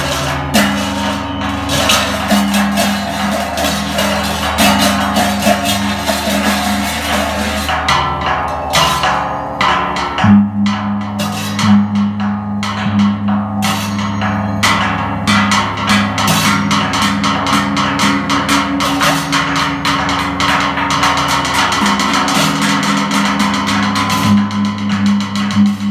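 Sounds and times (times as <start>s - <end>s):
deep gongs ringing: 0.0s - 25.9s
rapid sharp strikes: 0.0s - 25.9s.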